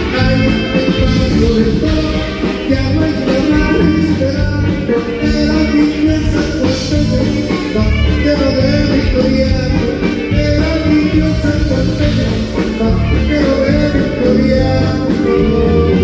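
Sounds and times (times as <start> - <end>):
live band playing: 0.0 - 16.0
man singing: 0.0 - 16.0.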